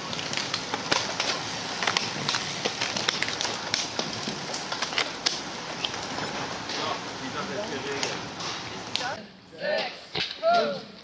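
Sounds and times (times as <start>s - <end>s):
bicycles rushing past: 0.0s - 9.2s.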